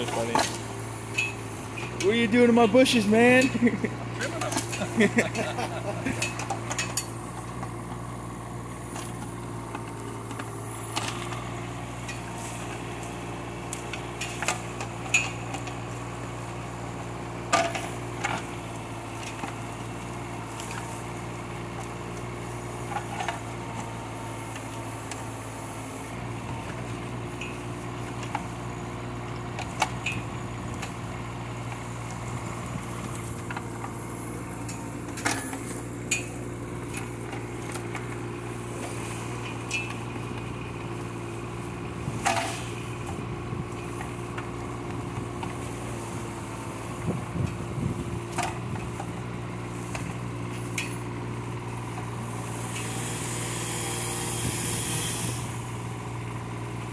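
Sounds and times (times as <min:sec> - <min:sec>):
diesel excavator engine running: 0:00.0 - 0:56.9.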